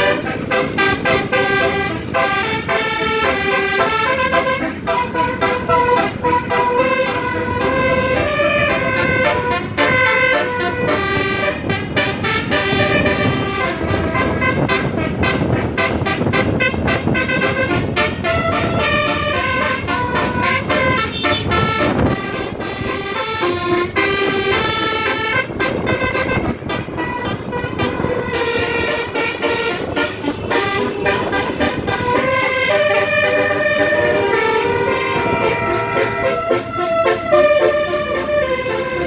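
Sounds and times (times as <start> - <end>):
bus multi-tone horn melody: 0.0 - 39.0.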